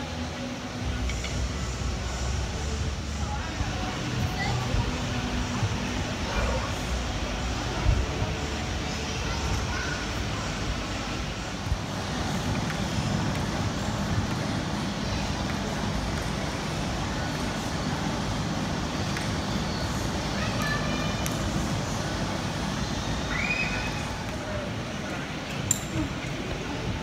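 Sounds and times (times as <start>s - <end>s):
distant indistinct voices: 0.0s - 27.0s.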